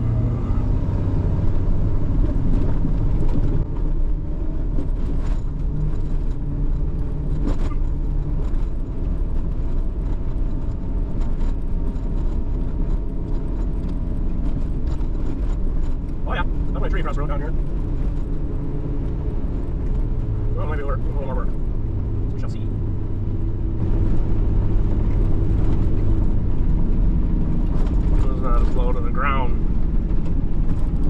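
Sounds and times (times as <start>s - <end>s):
truck engine and road rumble: 0.0s - 31.0s.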